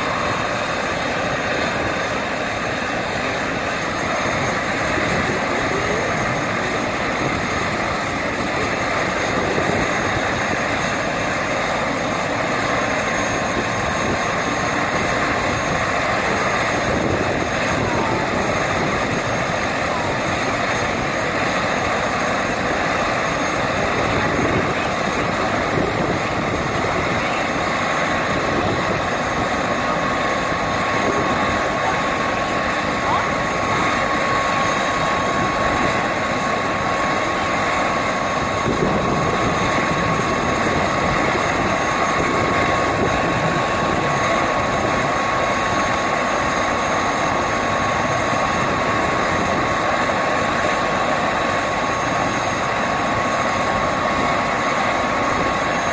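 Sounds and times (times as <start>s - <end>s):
helicopter rotor and engine: 0.0s - 55.9s
high turbine whine: 0.0s - 55.9s.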